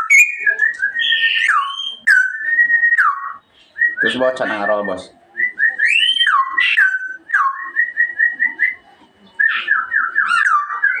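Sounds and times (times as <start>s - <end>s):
bird singing whistled phrases: 0.0s - 11.0s.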